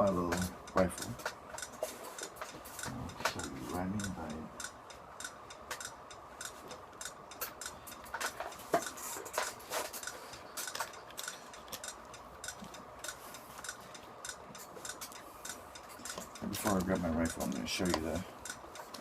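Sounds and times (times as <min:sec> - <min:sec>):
gear handling clicks and rustles: 0:00.0 - 0:04.8, 0:05.7 - 0:19.0
steady ticking: 0:00.0 - 0:19.0.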